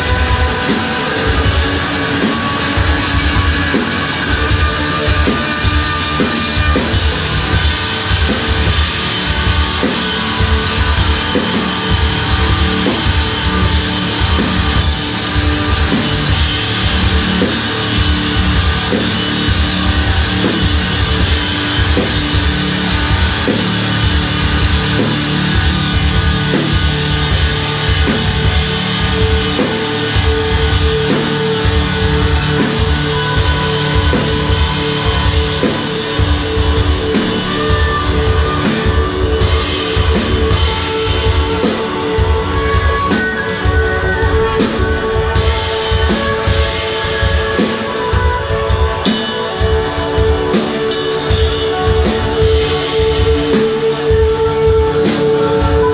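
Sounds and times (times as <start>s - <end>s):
bass guitar: 0.0s - 55.9s
drum kit beat: 0.0s - 55.9s
electric guitars ringing: 0.0s - 55.9s.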